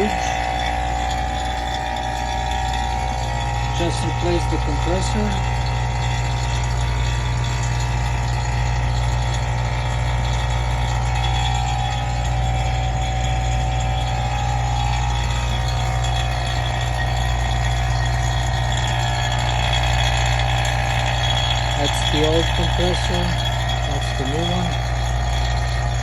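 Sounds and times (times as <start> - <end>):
vacuum pump humming: 0.0 - 26.0.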